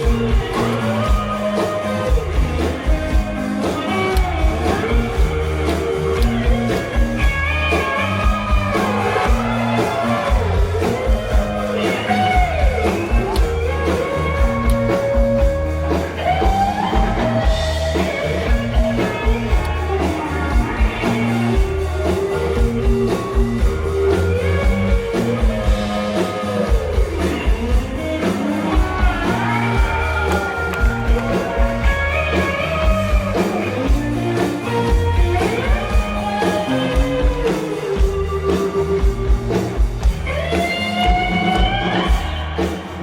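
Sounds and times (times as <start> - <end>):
bass guitar: 0.0 - 43.0
electric slide guitar: 0.0 - 43.0
steady drum beat: 0.0 - 43.0.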